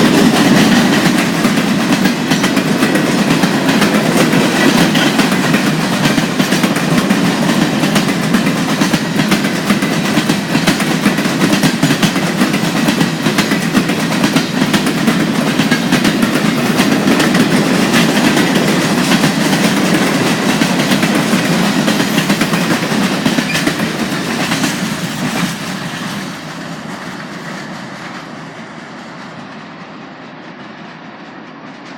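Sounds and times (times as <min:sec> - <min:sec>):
wheels clicking over rail joints: 0:00.0 - 0:26.5
freight train rolling past: 0:00.0 - 0:31.9.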